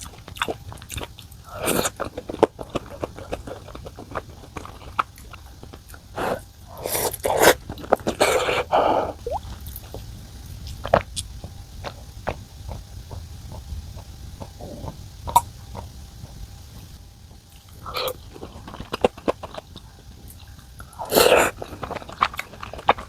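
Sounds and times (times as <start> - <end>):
person chewing: 0.0 - 23.0.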